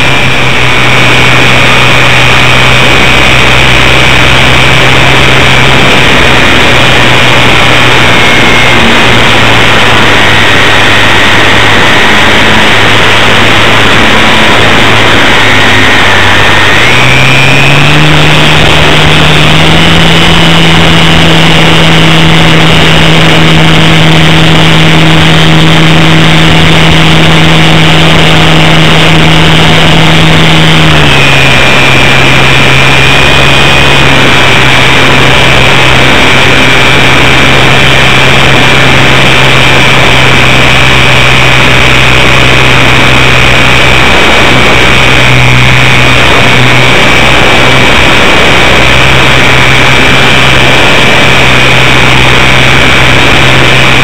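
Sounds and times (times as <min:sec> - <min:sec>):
model plane motor droning: 0:00.0 - 0:54.0
rushing wind: 0:00.0 - 0:54.0.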